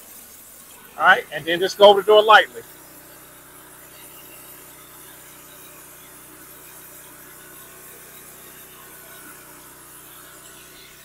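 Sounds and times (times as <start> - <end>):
pressure washer spraying: 0.0 - 11.0.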